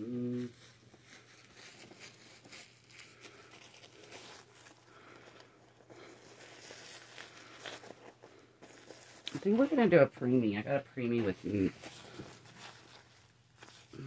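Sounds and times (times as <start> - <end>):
diaper rustling and crinkling: 0.1 - 14.0.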